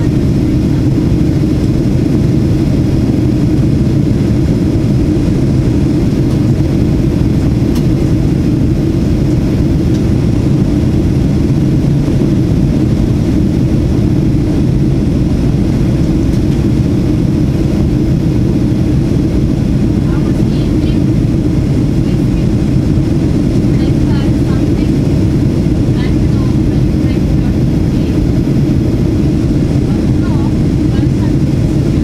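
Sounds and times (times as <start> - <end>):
aircraft engine noise: 0.0 - 32.0
airflow over fuselage: 0.0 - 32.0.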